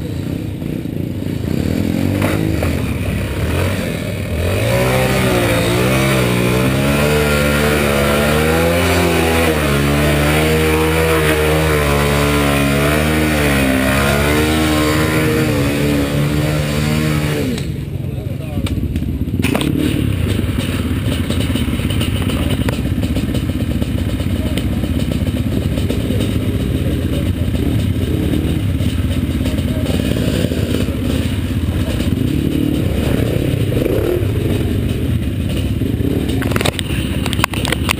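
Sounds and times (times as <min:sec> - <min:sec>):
motorcycle engine idling: 0:00.0 - 0:16.2, 0:17.4 - 0:37.9
distant motorcycle engine revving: 0:00.0 - 0:37.9.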